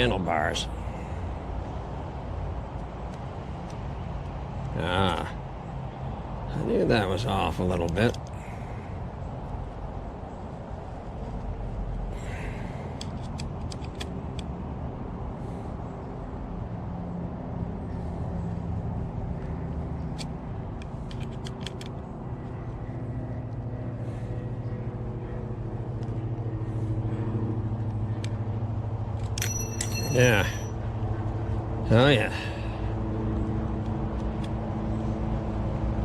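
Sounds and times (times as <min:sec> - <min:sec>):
vehicle engine humming: 0:00.0 - 0:36.0.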